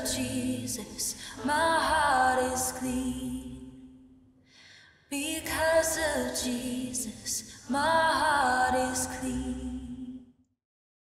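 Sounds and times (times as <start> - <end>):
woman singing: 0.0 - 3.8, 5.1 - 10.2.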